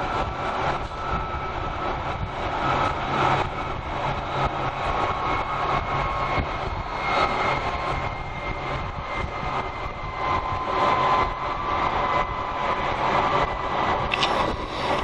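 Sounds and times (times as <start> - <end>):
train interior rumble and hiss: 0.0 - 8.0, 8.6 - 15.0.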